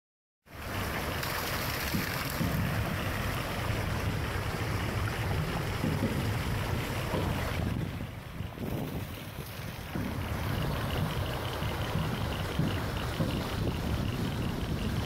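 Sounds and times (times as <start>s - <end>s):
water gushing and splashing: 0.5s - 15.0s
wind buffeting microphone: 1.4s - 15.0s.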